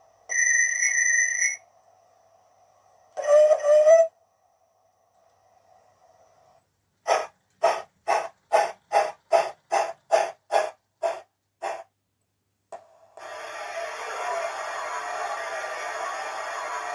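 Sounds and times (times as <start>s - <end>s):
synthetic steam locomotive chuffs: 0.0s - 12.0s, 12.8s - 16.9s.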